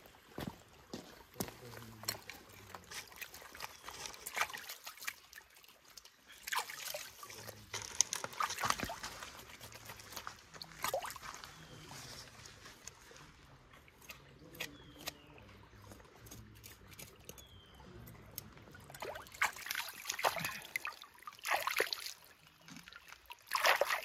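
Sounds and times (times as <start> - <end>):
stream water trickling: 0.0 - 24.0.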